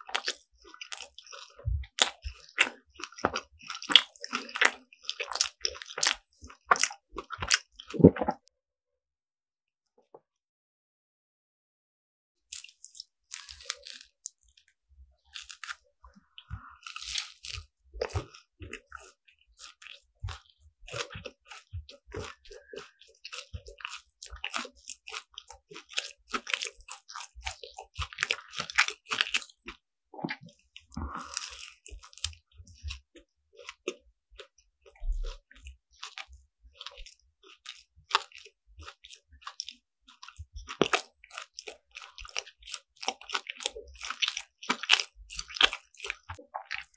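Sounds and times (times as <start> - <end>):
crunchy biting and chewing: 0.0 - 8.4, 12.5 - 46.9.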